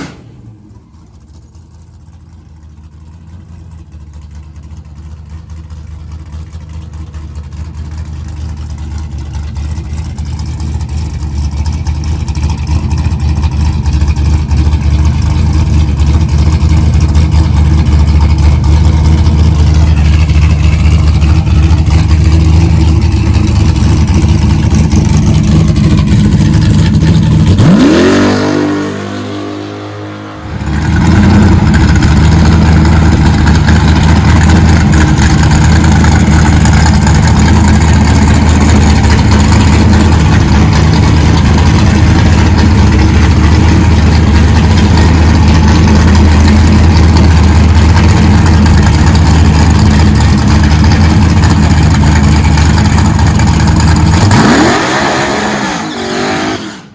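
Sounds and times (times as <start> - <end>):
car engine running loud: 0.0 - 56.9.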